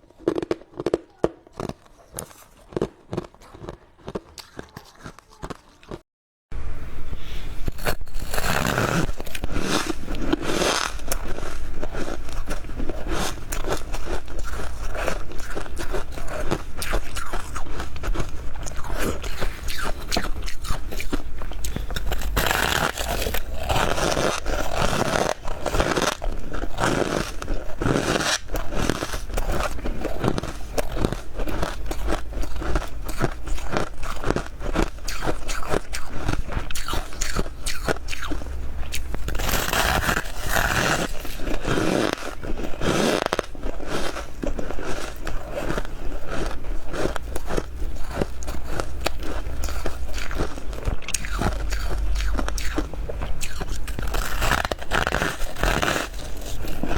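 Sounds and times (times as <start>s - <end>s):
crunching and chewing frost: 0.0s - 6.0s, 7.6s - 56.9s
steady low hum: 6.5s - 56.9s.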